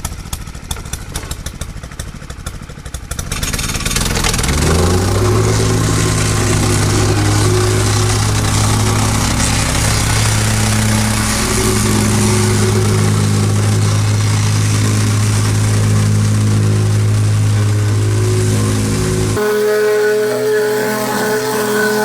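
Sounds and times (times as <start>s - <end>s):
plate compactor vibrating on gravel: 0.0s - 22.0s.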